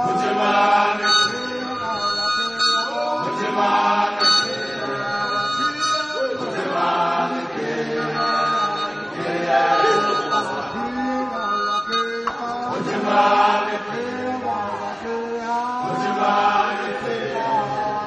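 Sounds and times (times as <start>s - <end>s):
men singing in chorus: 0.0s - 18.0s.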